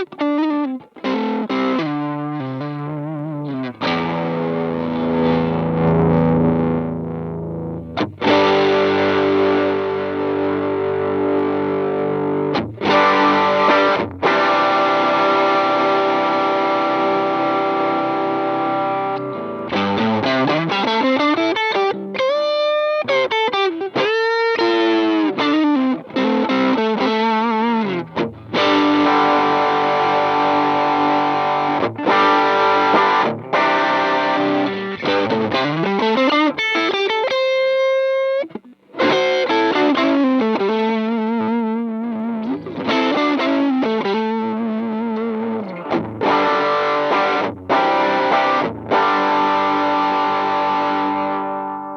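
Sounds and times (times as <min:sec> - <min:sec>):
distorted electric guitar: 0:00.0 - 0:51.9.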